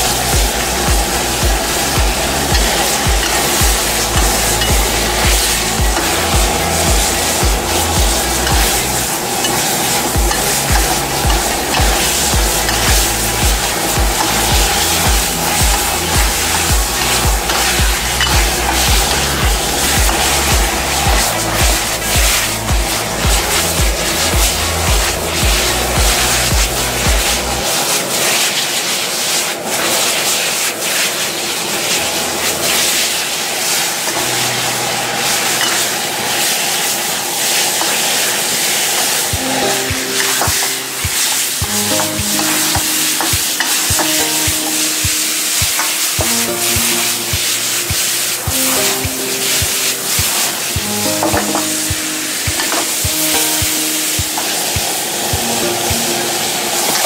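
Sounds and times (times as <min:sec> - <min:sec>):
chicken sizzling: 0:00.0 - 0:57.0
gas burner roaring: 0:00.0 - 0:57.0
spatula scraping wok: 0:00.0 - 0:57.0.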